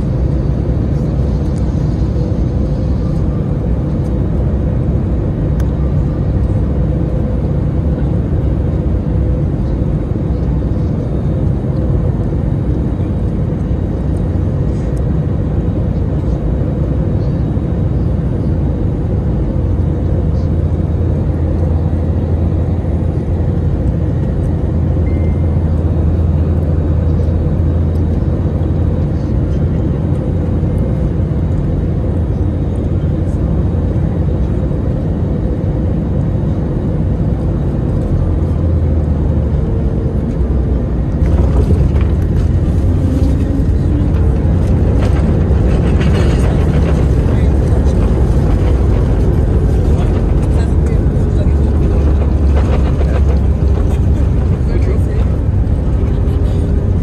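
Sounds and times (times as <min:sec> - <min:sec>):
jet engine rumble: 0:00.0 - 0:57.0.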